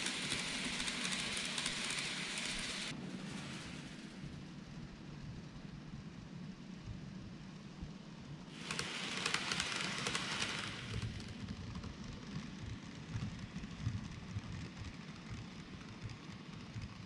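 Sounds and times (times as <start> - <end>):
model train rumbling past: 0.0 - 6.9, 7.5 - 17.0
model train wheels on rails: 0.0 - 17.0.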